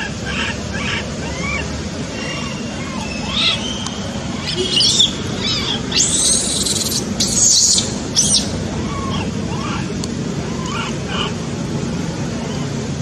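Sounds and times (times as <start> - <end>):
baby monkey squealing: 0.0 - 11.4.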